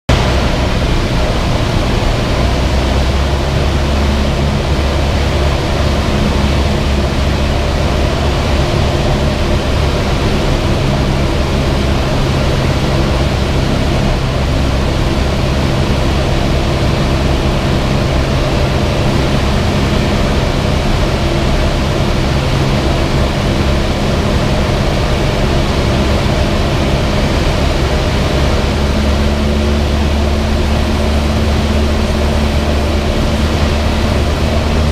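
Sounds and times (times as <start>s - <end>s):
plane piston engine droning: 0.1s - 34.9s.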